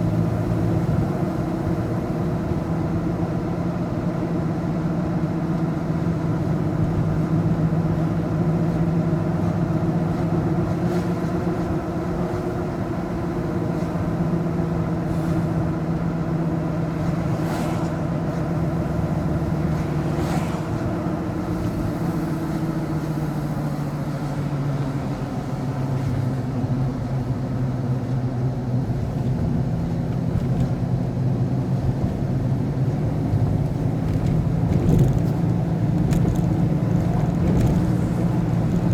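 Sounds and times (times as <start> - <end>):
road noise: 0.0 - 38.9
vehicle engine running: 6.4 - 38.9.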